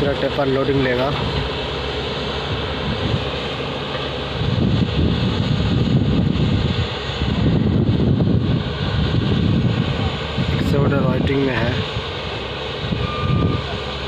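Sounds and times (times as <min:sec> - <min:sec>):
heavy diesel engines droning: 0:00.0 - 0:14.0.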